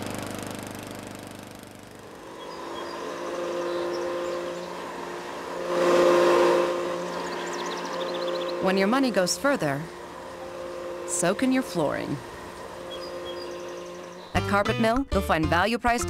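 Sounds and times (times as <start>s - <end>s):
vacuum cleaner motor whining: 0.0s - 14.6s
lawn mower engine running: 0.0s - 15.6s.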